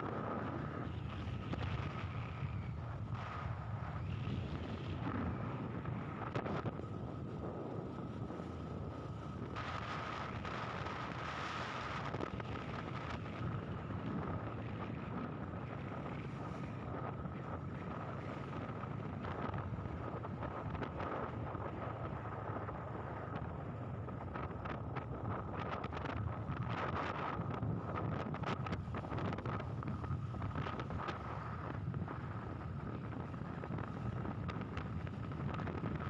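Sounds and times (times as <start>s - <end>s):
faint steady whine: 0.0s - 36.0s
moving vehicle running: 0.0s - 36.0s
wind buffeting microphone: 0.0s - 36.0s.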